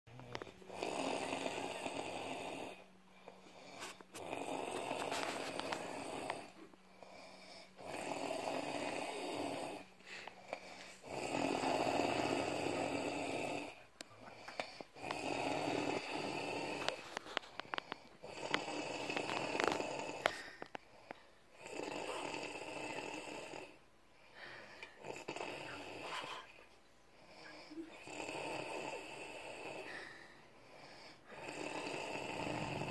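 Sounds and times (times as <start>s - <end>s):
man snoring: 0.1s - 23.8s, 24.5s - 32.9s.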